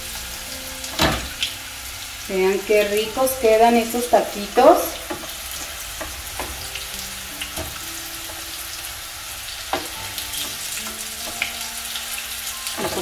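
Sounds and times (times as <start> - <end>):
tortillas sizzling in oil: 0.0 - 13.0.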